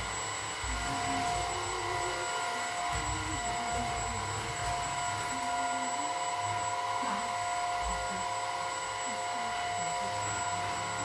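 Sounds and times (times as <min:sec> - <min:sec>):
stick vacuum motor whine: 0:00.0 - 0:11.0.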